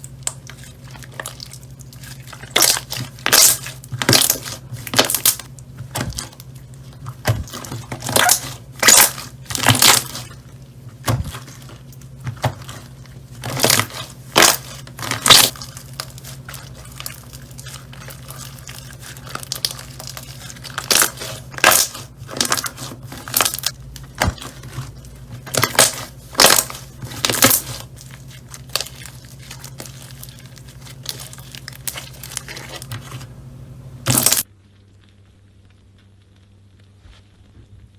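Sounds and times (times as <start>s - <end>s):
crunchy slime crackling: 0.0s - 37.9s.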